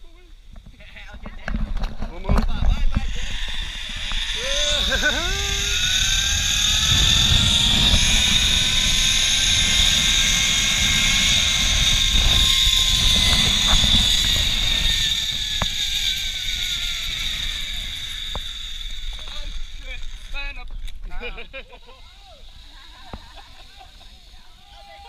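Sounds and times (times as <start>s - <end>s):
wind rushing on microphone: 0.5s - 20.8s
zipline pulleys whining on cable: 2.2s - 25.0s.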